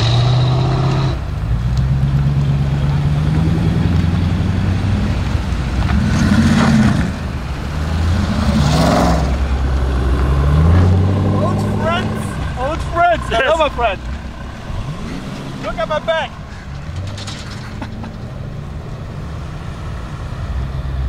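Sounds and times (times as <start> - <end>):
muscle car engines burbling: 0.0 - 21.0.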